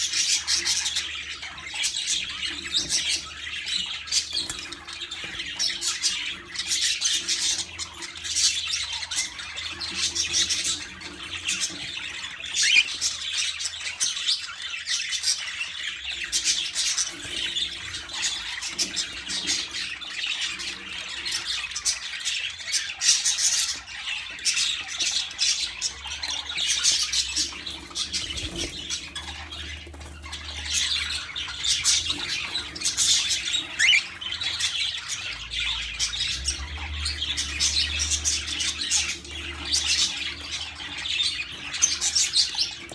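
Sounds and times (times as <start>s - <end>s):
birds calling and chirping: 0.0s - 42.9s.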